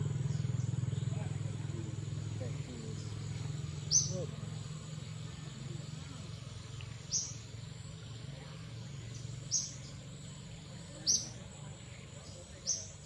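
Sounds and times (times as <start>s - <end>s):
bird chirping: 0.0s - 13.0s
steady low rumble: 0.0s - 13.0s.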